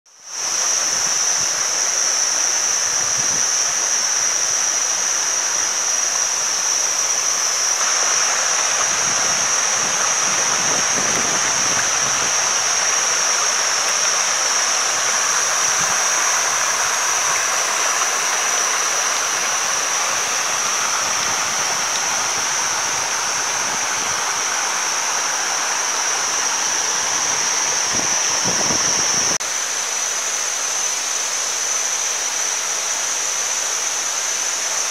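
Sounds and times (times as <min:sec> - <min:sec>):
river water rushing over rock: 0:00.2 - 0:34.9
high-pitched shrill drone: 0:00.3 - 0:29.4.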